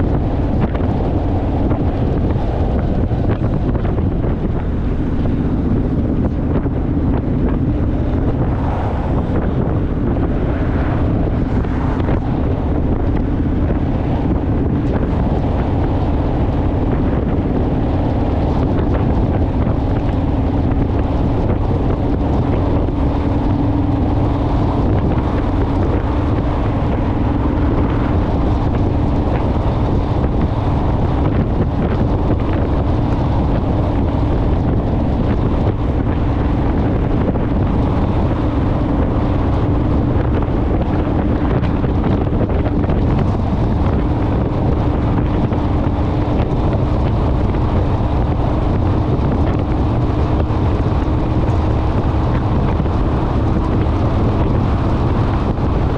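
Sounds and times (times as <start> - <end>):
motorcycle engine droning: 0.0 - 55.9
wind buffeting microphone: 0.0 - 55.9.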